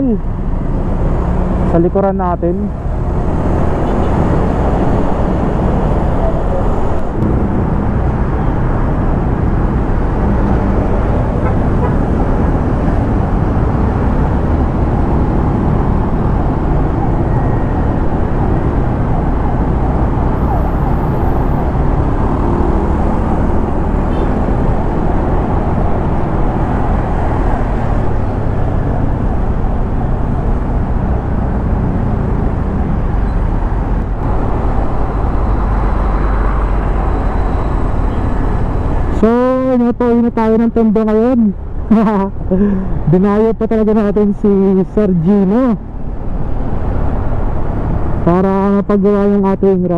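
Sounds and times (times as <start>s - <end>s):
wind and road rush: 0.0s - 49.9s.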